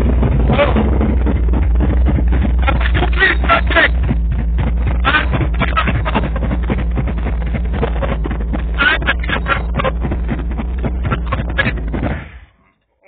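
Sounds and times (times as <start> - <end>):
car engine running: 0.0 - 12.4.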